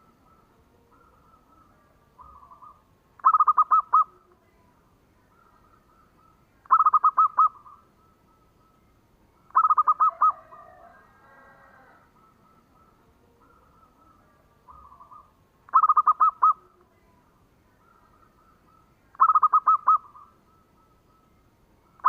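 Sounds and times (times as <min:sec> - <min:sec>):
dove cooing: 0:00.0 - 0:04.3, 0:05.3 - 0:08.7, 0:09.4 - 0:17.1, 0:17.8 - 0:21.2
faint jumbled bird call: 0:00.0 - 0:22.0.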